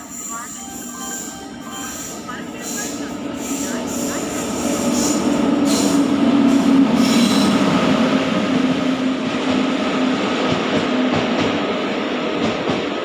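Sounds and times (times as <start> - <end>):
train wheels rumbling on rails: 1.7 - 13.0.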